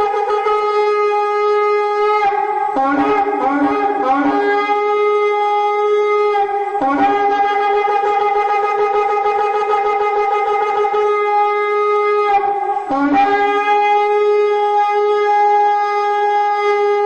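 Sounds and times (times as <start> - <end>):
shofar blowing: 0.0 - 17.0.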